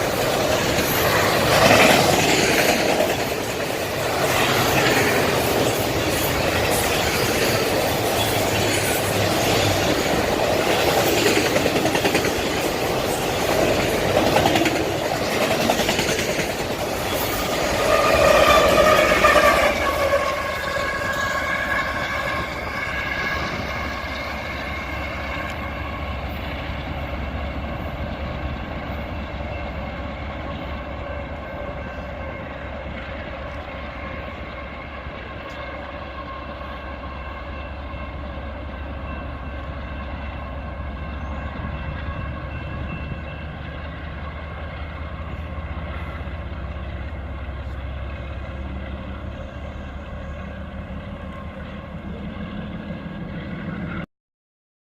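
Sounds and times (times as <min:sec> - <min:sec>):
freight train rolling past: 0:00.0 - 0:54.1
high-pitched train tones: 0:00.0 - 0:54.1.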